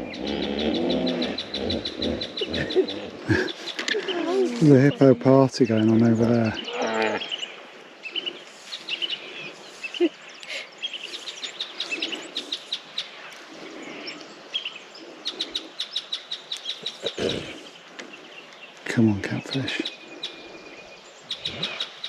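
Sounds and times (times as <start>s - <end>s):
wild birds calling and chirping: 0.0s - 22.0s.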